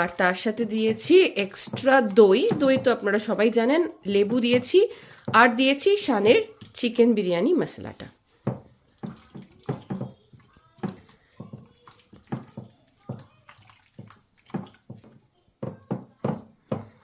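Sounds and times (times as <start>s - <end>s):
wet squelches of mixing meat: 0.0s - 17.0s.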